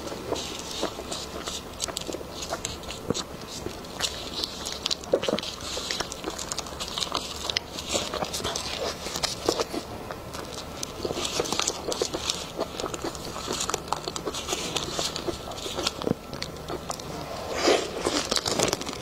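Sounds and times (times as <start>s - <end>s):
plastic wrapper crinkling: 0.0s - 17.1s, 17.8s - 19.0s
pastry being chewed: 0.0s - 19.0s.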